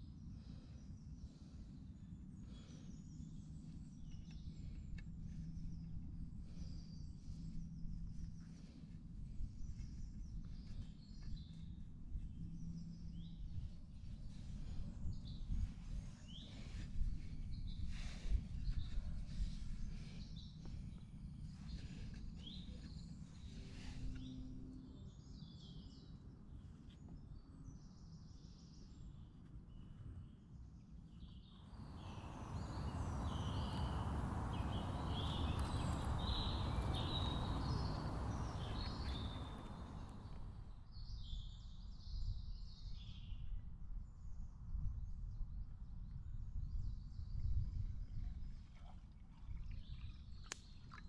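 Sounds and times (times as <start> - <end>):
songbirds chirping: 0.0 - 43.4.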